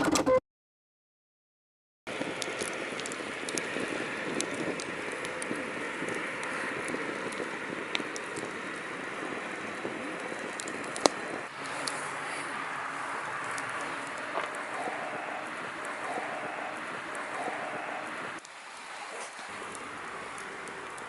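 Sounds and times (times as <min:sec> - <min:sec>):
campfire crackling: 0:02.1 - 0:21.0
fire popping: 0:02.1 - 0:21.0.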